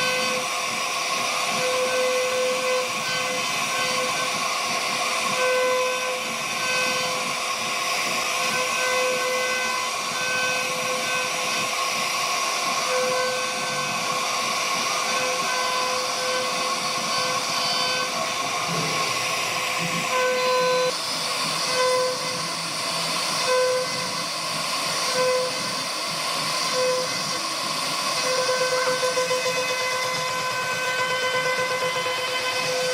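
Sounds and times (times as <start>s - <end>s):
hiss: 0.0s - 32.9s
router spindle whining: 0.0s - 32.9s.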